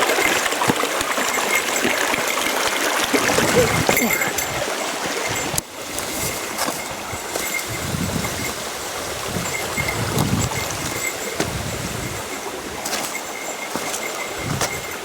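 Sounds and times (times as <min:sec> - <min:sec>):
mountain stream and waterfall: 0:00.0 - 0:15.0.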